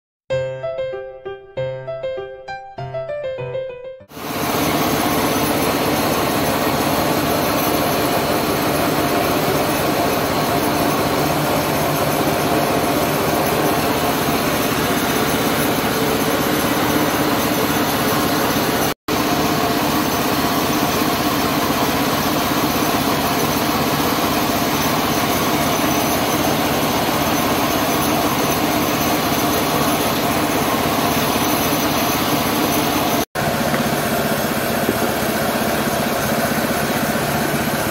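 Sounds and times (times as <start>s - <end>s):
small petrol engine drone: 4.2s - 37.9s.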